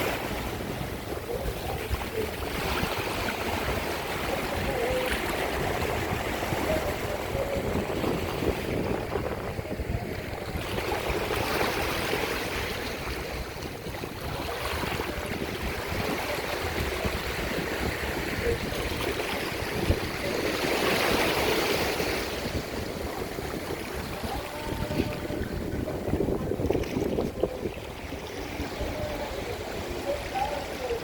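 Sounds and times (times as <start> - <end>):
sea waves washing on shore: 0.0 - 31.0.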